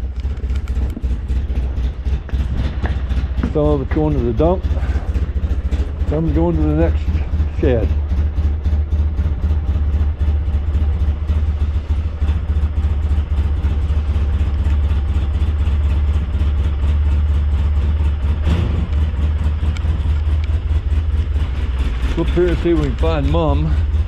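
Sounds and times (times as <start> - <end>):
snowplow engine humming: 0.0 - 24.0.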